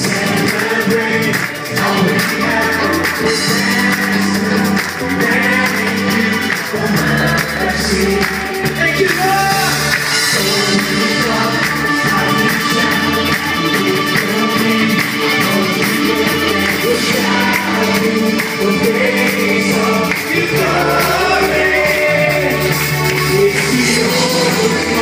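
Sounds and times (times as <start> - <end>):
driving drum beat: 0.0 - 25.0
lead singer on microphone: 0.0 - 25.0
live band playing worship song: 0.0 - 25.0.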